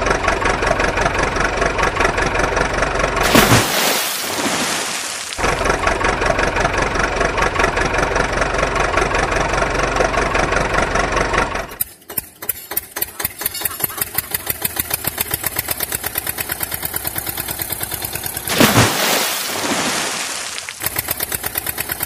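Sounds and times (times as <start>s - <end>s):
tractor engine chugging: 0.0s - 3.3s, 5.4s - 18.5s, 20.7s - 22.0s.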